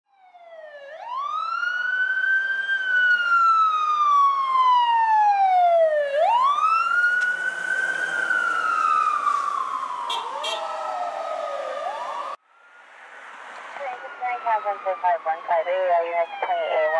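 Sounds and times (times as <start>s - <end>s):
emergency vehicle siren wailing: 0.1s - 16.9s.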